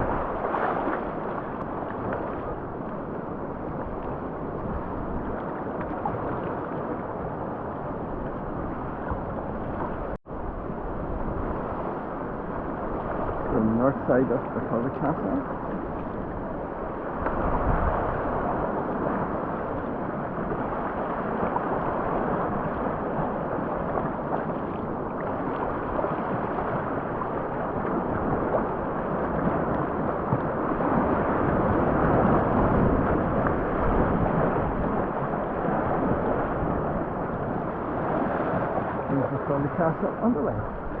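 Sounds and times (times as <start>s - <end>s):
wind buffeting microphone: 0.0s - 13.8s, 15.4s - 39.3s
water lapping around kayak: 0.0s - 41.0s.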